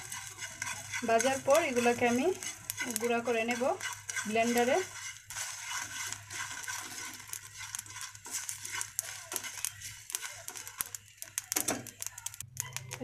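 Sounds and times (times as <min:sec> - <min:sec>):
spices rattling in a pan: 0:00.0 - 0:13.0.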